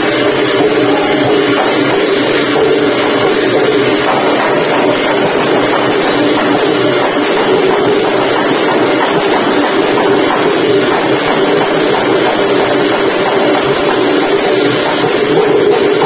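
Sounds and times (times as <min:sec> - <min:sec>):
cymbals: 0:00.0 - 0:16.0
gong: 0:00.0 - 0:16.0
hand drums: 0:00.0 - 0:16.0.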